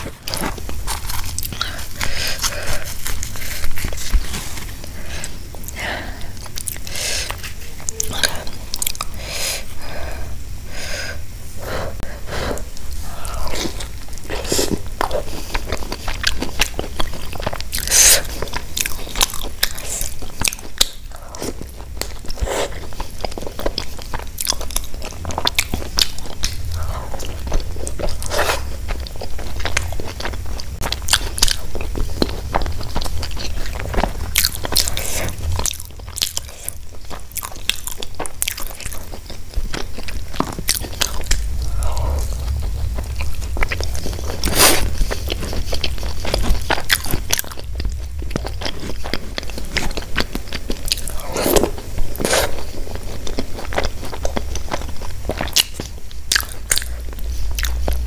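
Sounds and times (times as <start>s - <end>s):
person chewing and crunching: 0.0s - 10.4s, 12.0s - 58.0s.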